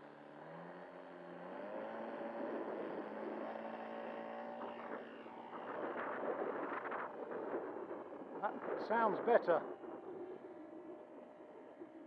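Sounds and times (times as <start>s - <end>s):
model aircraft engine full throttle: 0.0s - 12.0s.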